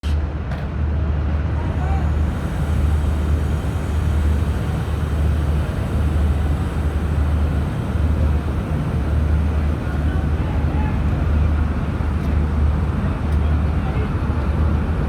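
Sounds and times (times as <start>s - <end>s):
diesel locomotive engine droning: 0.3s - 15.0s.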